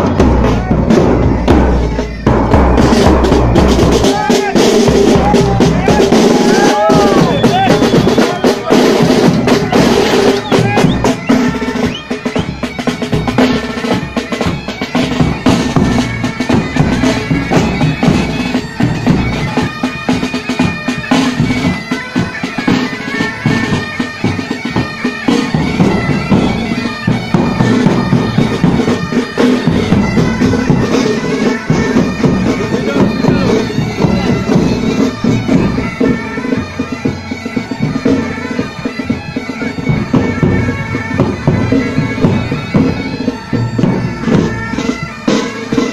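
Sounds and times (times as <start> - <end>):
bagpipes playing melody: 0.0 - 45.9
side drums: 0.0 - 45.9.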